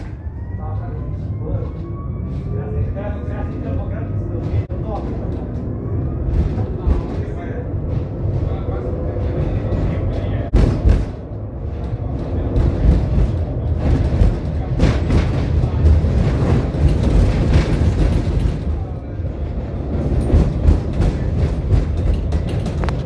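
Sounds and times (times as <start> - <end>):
tram rumbling on track: 0.0 - 23.0
wheels clattering on rails: 0.0 - 23.0.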